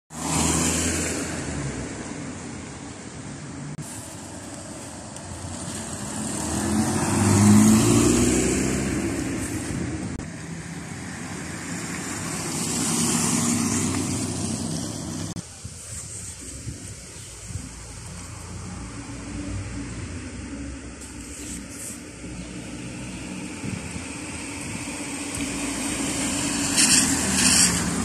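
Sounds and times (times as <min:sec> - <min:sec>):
cars passing on wet road: 0:00.1 - 0:15.4, 0:16.8 - 0:28.0.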